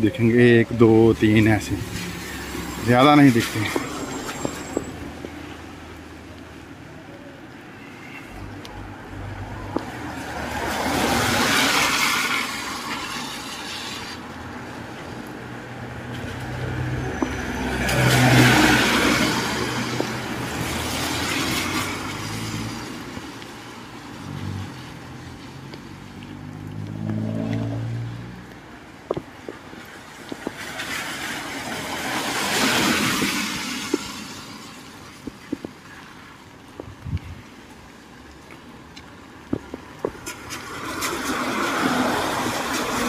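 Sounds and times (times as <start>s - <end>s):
tyres hissing on wet road: 0.2s - 6.4s, 7.5s - 36.6s, 37.2s - 43.0s.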